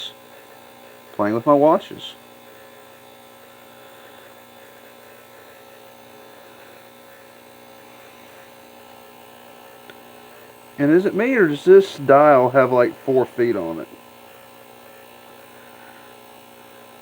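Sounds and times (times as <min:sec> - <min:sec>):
electrical hum with faint buzz: 0:00.0 - 0:17.0.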